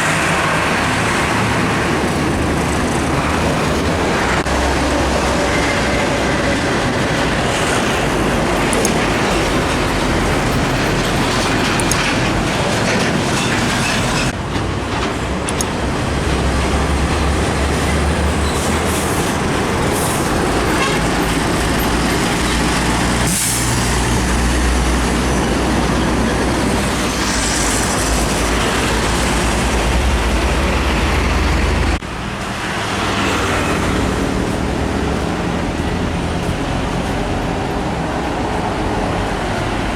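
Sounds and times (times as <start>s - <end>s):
heavy trucks on highway: 0.0s - 39.9s.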